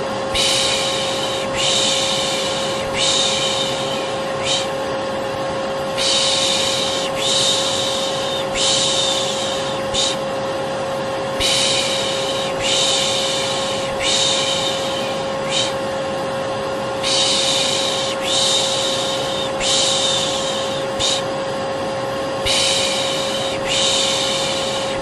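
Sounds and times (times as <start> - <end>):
vacuum cleaner running: 0.0 - 25.0
person shushing: 0.3 - 4.8, 6.0 - 10.3, 11.4 - 15.9, 17.0 - 21.4, 22.4 - 25.0.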